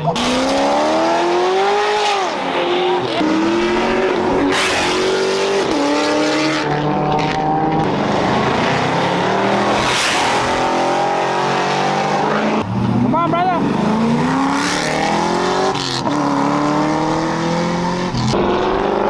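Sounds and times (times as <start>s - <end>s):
car engine revving hard: 0.0s - 19.0s.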